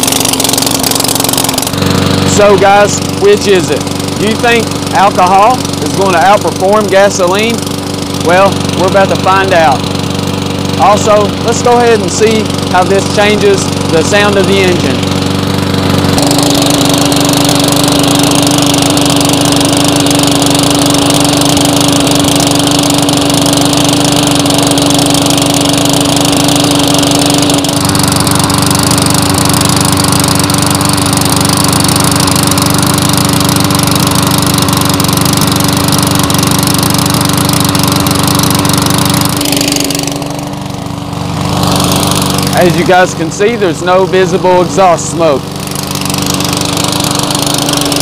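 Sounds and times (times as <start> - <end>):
lawn mower engine running: 0.0 - 48.0.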